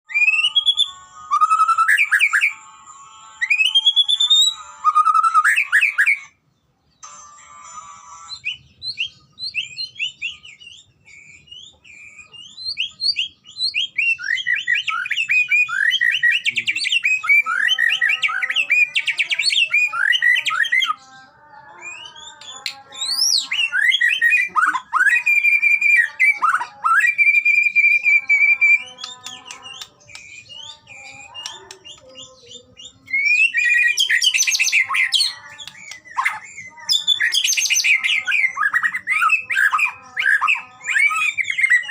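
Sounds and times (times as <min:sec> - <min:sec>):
bird singing whistles and trills: 0:00.1 - 0:02.6, 0:03.4 - 0:06.4, 0:08.2 - 0:21.0, 0:21.6 - 0:41.9.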